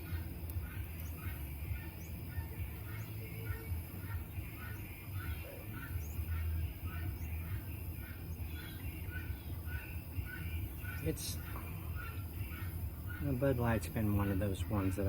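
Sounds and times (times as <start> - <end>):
bird chirping: 0.0 - 15.0
steady low hum: 0.0 - 15.0.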